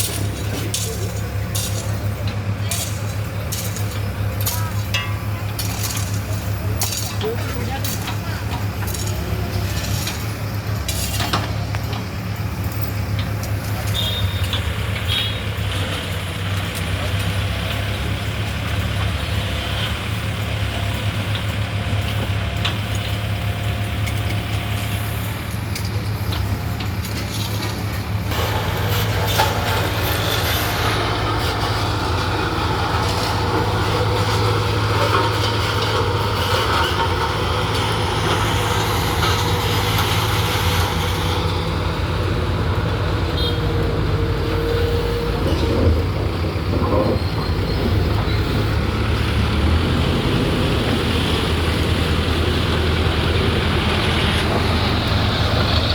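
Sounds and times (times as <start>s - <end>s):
diesel machinery engine drone: 0.0s - 55.9s.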